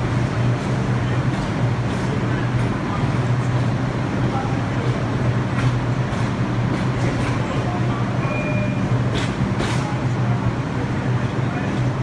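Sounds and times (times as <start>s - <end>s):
subway train humming: 0.0s - 12.0s.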